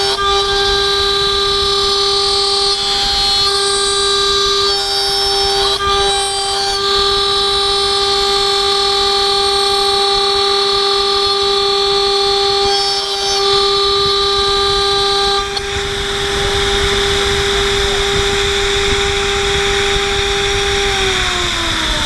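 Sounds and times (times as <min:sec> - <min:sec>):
router spindle cutting metal whine: 0:00.0 - 0:22.0.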